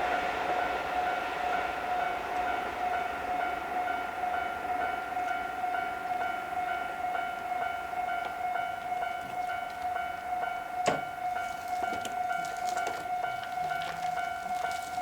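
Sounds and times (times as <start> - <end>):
passing train: 0.0 - 15.0
level crossing alarm bell: 2.0 - 15.0.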